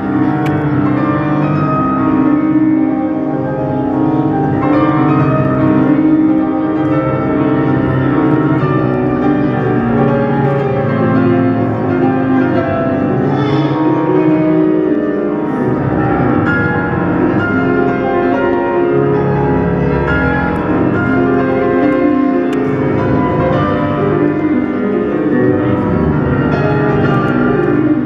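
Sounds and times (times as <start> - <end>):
instrumental piano music: 0.0 - 28.0.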